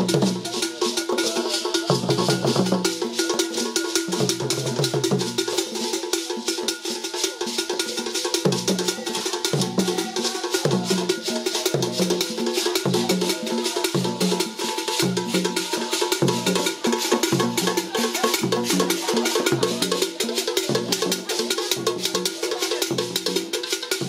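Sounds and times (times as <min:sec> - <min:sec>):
percussion-heavy music: 0:00.0 - 0:24.0.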